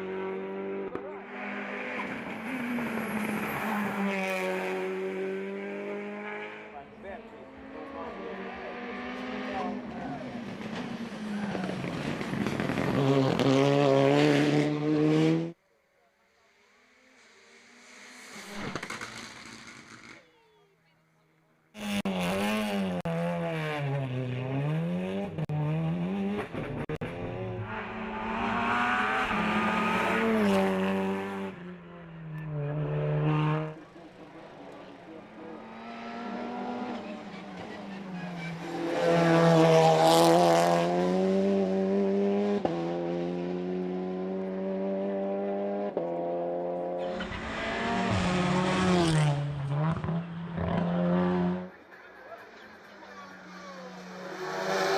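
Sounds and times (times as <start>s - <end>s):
race car engine revving: 0.0s - 15.6s, 21.8s - 54.9s.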